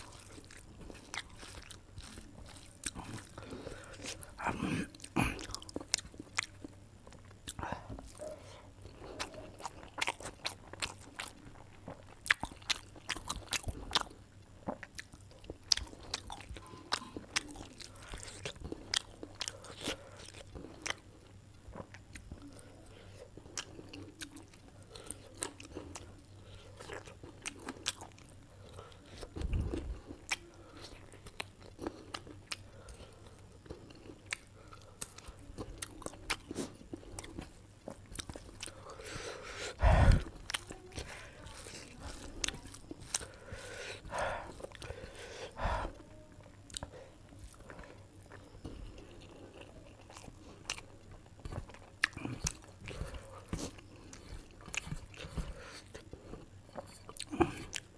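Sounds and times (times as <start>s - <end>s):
close-up chewing with mouth clicks: 0.0s - 57.9s.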